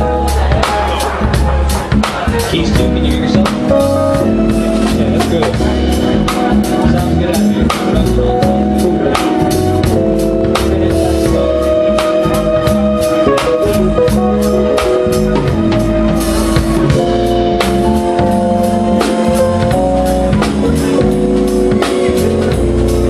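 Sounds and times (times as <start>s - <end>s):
bass line: 0.0s - 23.0s
drum kit beat: 0.0s - 23.0s
keyboard chords: 0.0s - 23.0s.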